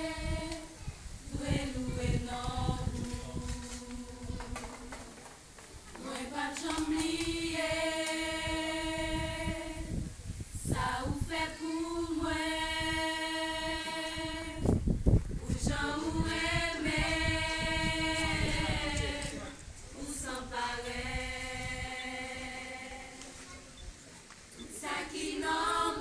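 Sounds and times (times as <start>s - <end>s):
women singing a cappella: 0.0s - 23.4s, 24.6s - 26.0s.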